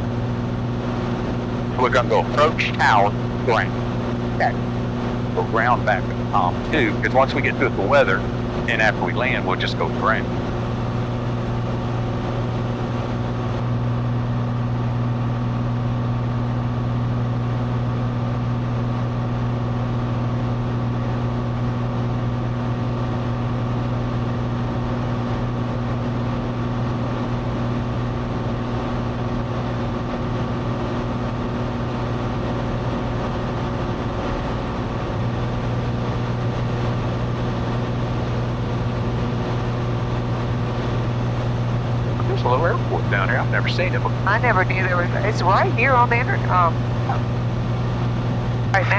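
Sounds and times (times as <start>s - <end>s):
airplane engine droning in cabin: 0.0s - 48.9s.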